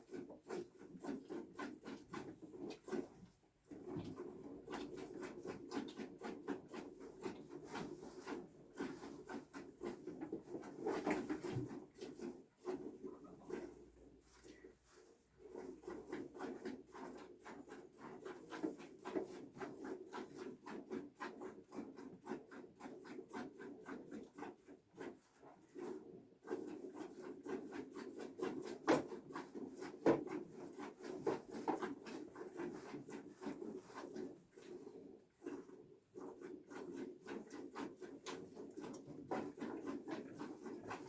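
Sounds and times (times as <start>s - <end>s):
rapid rubbing strokes: 3.8s - 41.0s.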